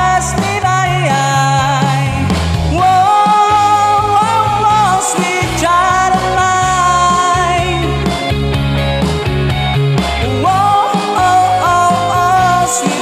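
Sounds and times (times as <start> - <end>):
rock song: 0.0 - 13.0
steady bass line: 0.0 - 13.0.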